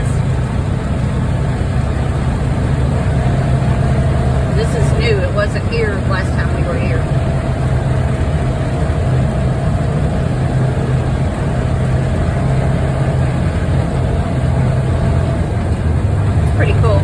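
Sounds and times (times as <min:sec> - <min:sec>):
utility vehicle engine droning: 0:00.0 - 0:17.0.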